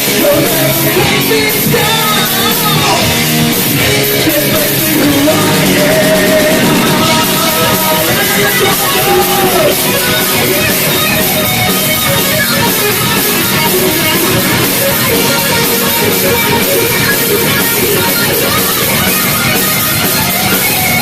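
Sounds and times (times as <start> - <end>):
distorted electric guitar: 0.0 - 21.0
drums: 0.0 - 21.0.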